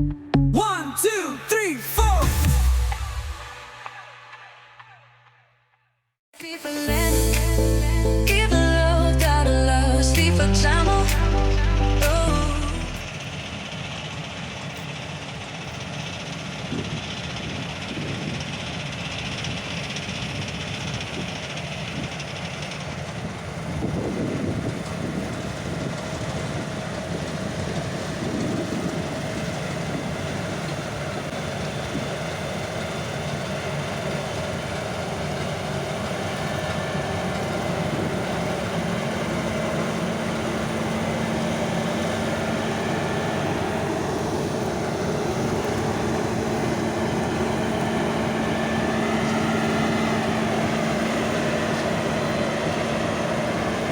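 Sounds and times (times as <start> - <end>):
diesel farm machinery running: 0.0 - 4.9, 6.9 - 53.9.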